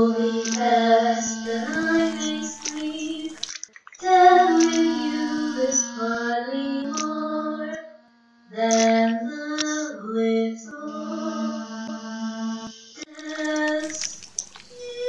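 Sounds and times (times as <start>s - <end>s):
women singing a cappella: 0.0s - 3.4s, 4.0s - 7.9s, 8.5s - 15.0s.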